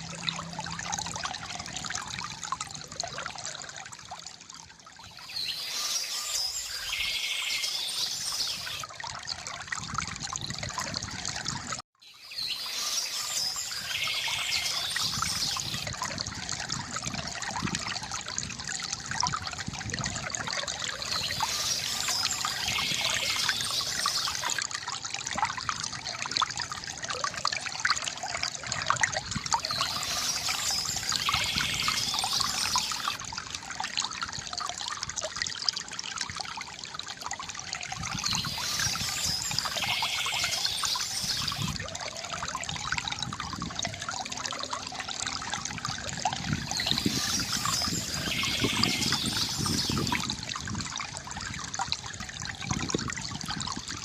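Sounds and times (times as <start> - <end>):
river water gurgling over stones: 0.0 - 54.0.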